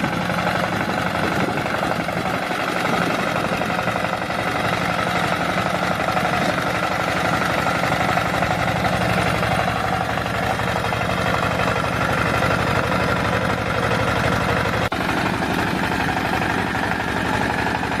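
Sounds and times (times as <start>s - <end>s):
engine chugging: 0.0s - 18.0s.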